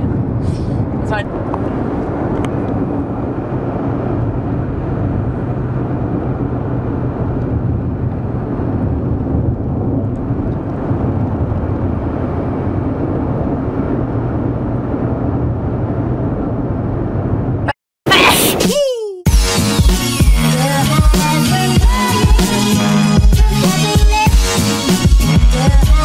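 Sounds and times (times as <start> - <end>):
car cabin road and engine noise: 0.0 - 26.0.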